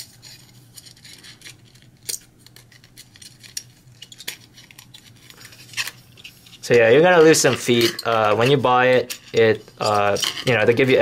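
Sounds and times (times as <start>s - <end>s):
film and spool clicks and rustles: 0.0s - 11.0s.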